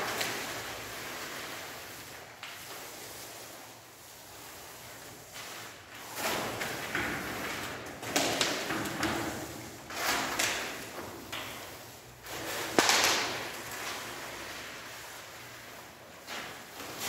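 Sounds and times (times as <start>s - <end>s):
paint roller swishing on wall: 0.0s - 17.0s.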